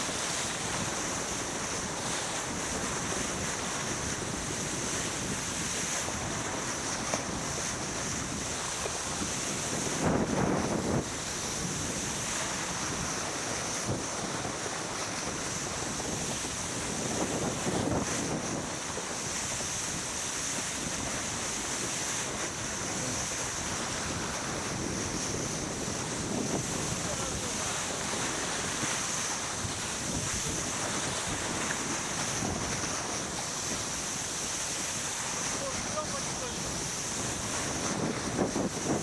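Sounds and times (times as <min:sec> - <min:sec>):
water rushing along boat hull: 0:00.0 - 0:39.0
wind on microphone: 0:00.0 - 0:39.0.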